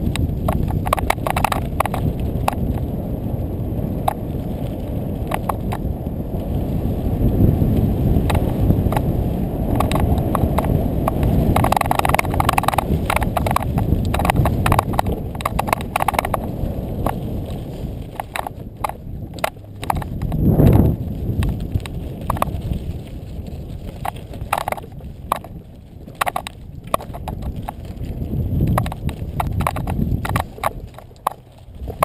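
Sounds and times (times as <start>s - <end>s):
bike clicks and rattles: 0.0s - 32.0s
wind and rolling noise: 0.0s - 32.0s.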